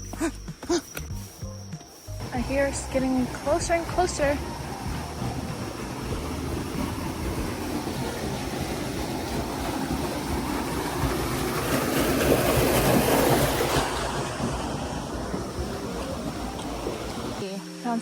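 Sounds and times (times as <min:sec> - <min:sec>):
waterfall roaring: 0:02.4 - 0:17.4.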